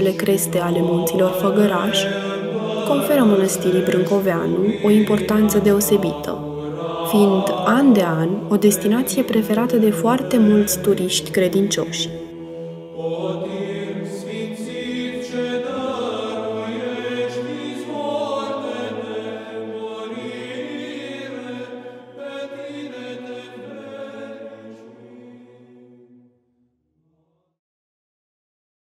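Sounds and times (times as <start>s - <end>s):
voices singing chant: 0.0s - 26.1s.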